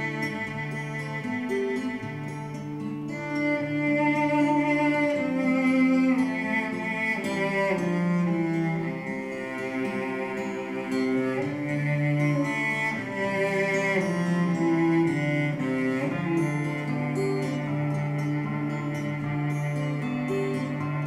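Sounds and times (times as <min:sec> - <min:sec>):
slow bowed string music on speakers: 0:00.0 - 0:21.0.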